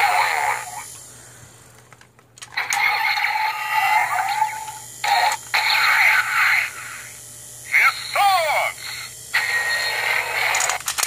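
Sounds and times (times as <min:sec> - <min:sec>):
toy belt electronic sound effects: 0:00.0 - 0:01.0, 0:02.4 - 0:11.0.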